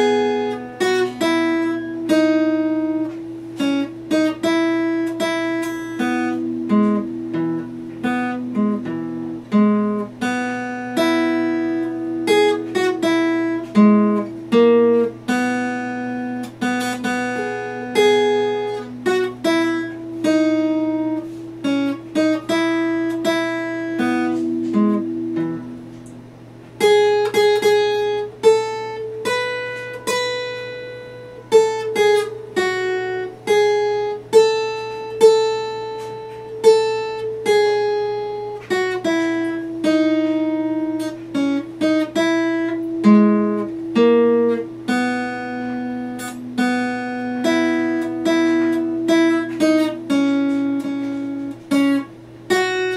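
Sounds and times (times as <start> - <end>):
acoustic guitar picked melody: 0.0 - 52.9.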